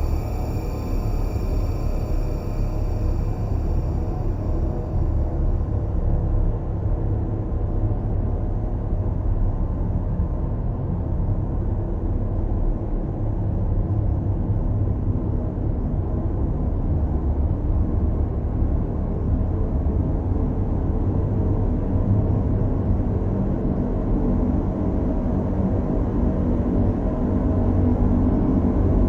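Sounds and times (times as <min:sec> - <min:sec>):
dark ambient drone music: 0:00.0 - 0:29.0.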